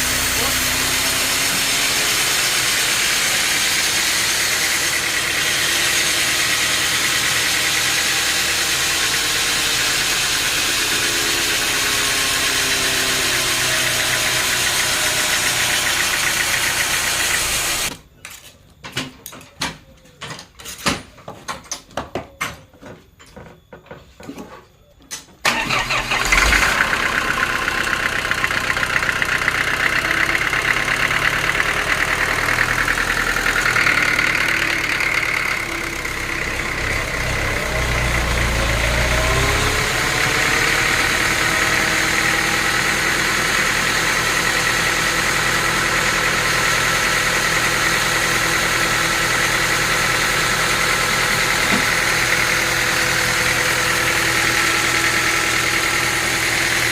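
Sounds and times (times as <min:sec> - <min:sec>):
engine-driven machinery running: 0:00.0 - 0:17.9, 0:25.5 - 0:56.9.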